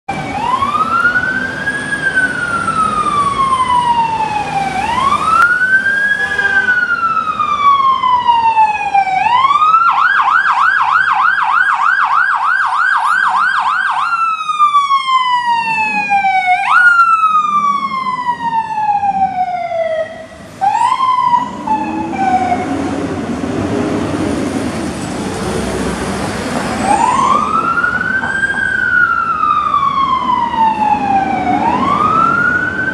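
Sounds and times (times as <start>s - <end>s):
fire truck siren wailing: 0.1s - 32.9s.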